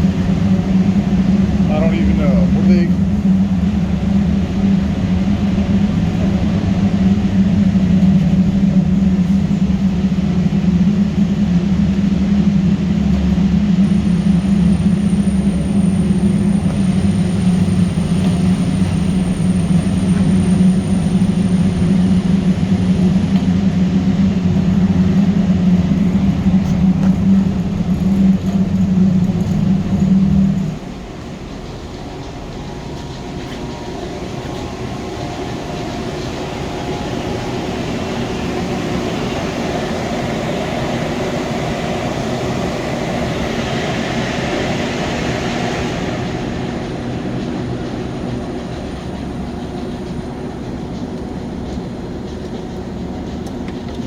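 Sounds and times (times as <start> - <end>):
boiler machinery hum and rumble: 0.0 - 54.0.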